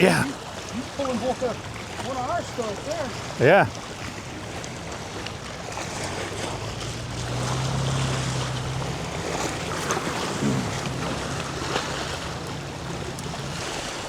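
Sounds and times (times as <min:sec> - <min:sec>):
waves washing against shore: 0:00.0 - 0:14.0.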